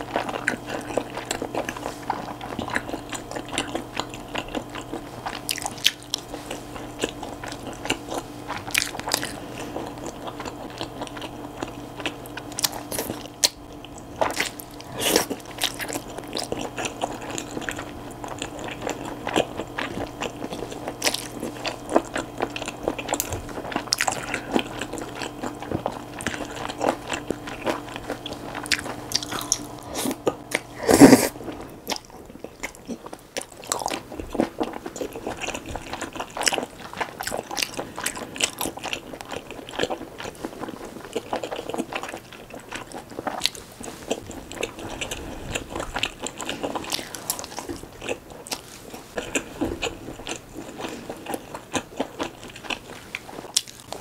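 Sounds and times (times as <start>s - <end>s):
wet chewing and slurping noodles: 0.0s - 54.0s.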